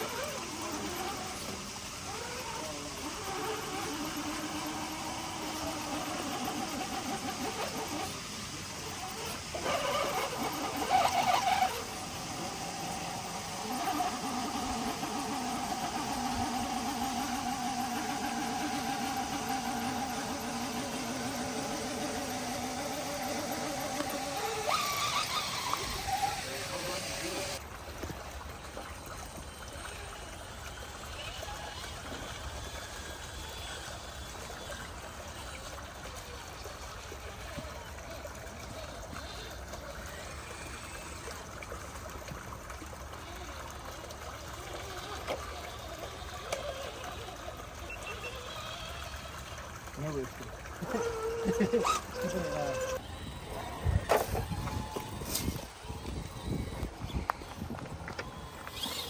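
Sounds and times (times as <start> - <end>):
electric motor and gearbox whining: 0.0 - 59.0.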